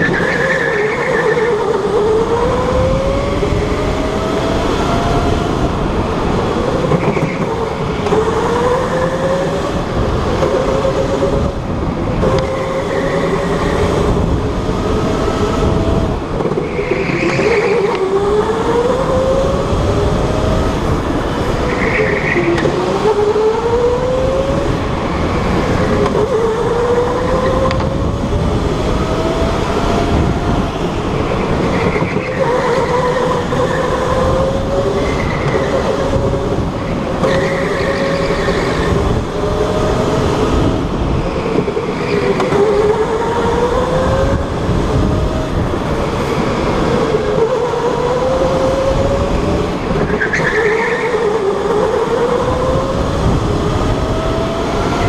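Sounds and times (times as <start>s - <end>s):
tyres rumbling on track: 0.0s - 55.0s.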